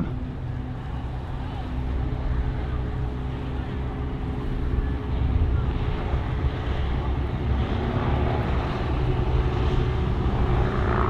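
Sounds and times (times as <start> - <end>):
boat engines droning: 0.0 - 11.0
wind noise on microphone: 0.0 - 11.0.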